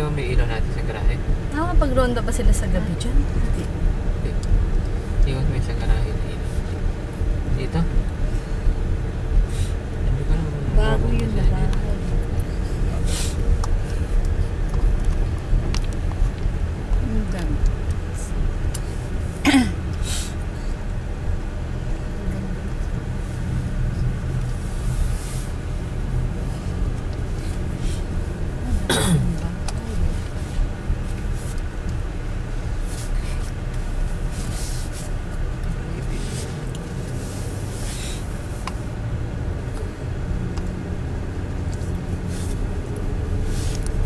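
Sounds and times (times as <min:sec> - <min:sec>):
car engine and tyres rumbling: 0:00.0 - 0:44.0.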